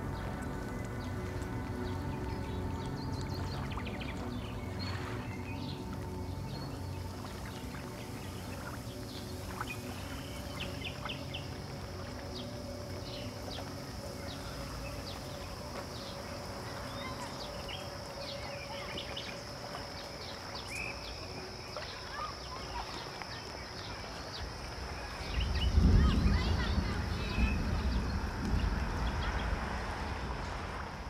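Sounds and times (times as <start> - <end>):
high insect drone: 0.0 - 31.0
insect chirps and clicks: 5.4 - 30.8.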